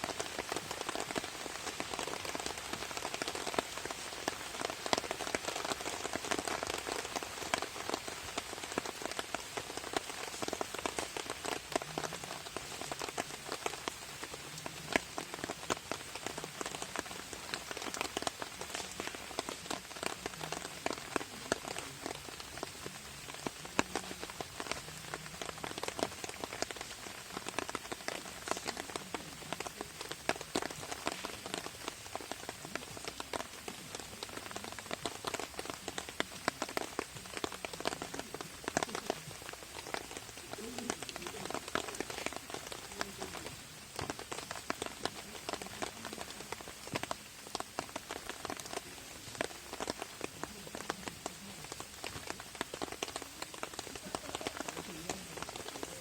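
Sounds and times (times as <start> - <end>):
rain on a tarp: 0.0 - 56.0.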